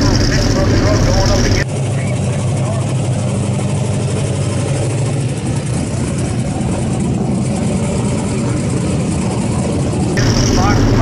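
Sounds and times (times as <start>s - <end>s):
race car engine idling: 0.0s - 11.0s.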